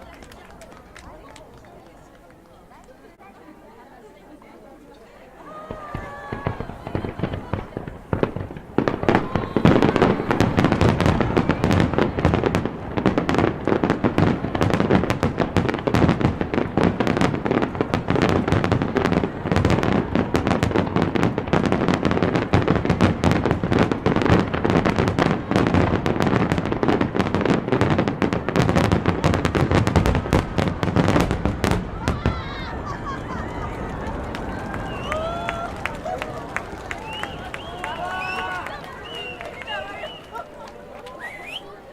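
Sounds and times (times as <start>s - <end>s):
fireworks bursting and crackling: 0.0s - 3.3s, 5.5s - 41.9s.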